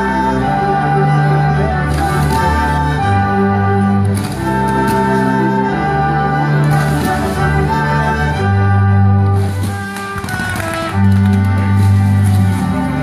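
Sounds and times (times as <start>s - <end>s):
orchestra playing sustained chords: 0.0s - 13.0s.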